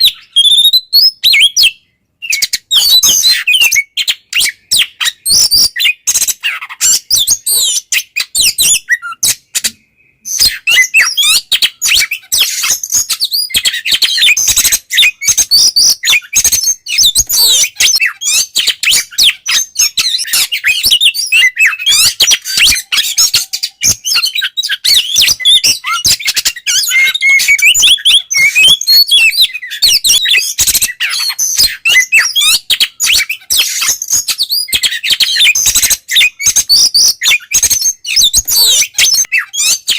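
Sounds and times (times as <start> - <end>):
songbird chirps and whistles: 0.0 - 39.9.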